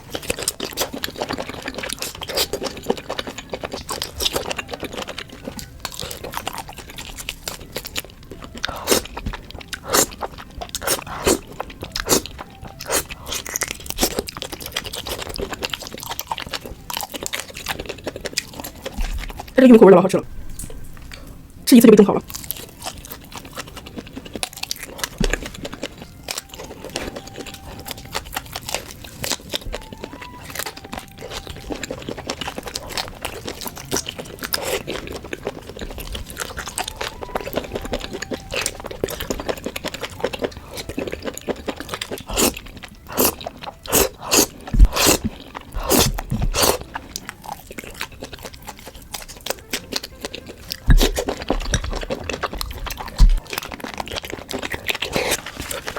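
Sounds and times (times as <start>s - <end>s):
crunchy chewing and biting: 0.0s - 19.6s, 20.2s - 55.9s.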